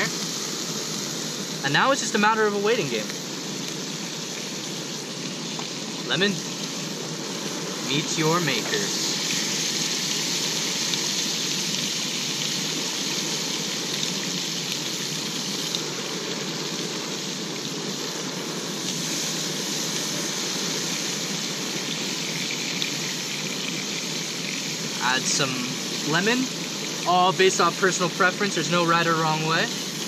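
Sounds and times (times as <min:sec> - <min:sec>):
fish frying in butter: 0:00.0 - 0:30.0.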